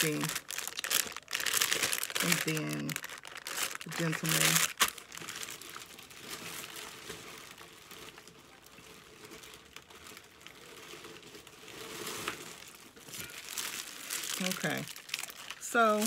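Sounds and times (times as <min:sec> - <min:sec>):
plastic sleeve crinkling: 0:00.0 - 0:16.0.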